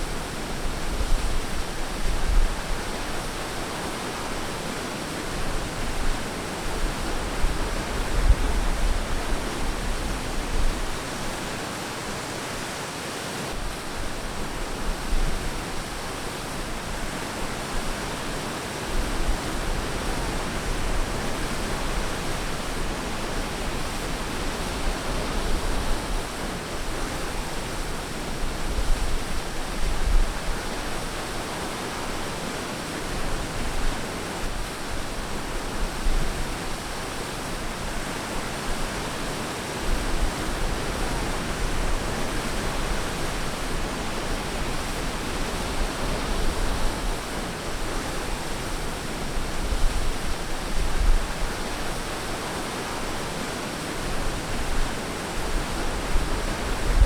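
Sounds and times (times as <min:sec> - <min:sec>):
low rumble of big waves: 0:00.0 - 0:12.7, 0:13.4 - 0:57.0.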